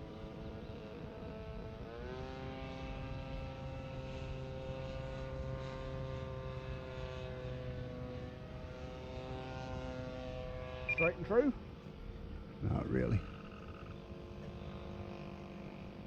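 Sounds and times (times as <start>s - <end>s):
model airplane motor drone: 0.0s - 16.0s.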